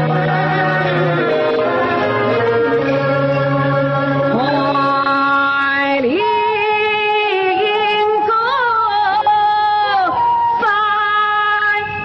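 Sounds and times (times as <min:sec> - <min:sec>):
woman singing opera: 0:00.0 - 0:11.9.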